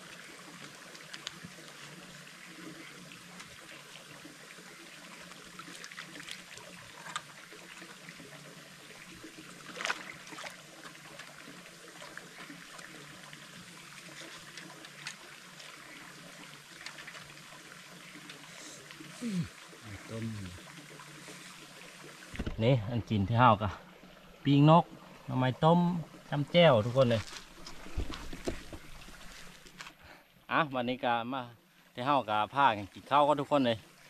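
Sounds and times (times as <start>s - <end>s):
running water trickling: 0.0s - 34.0s.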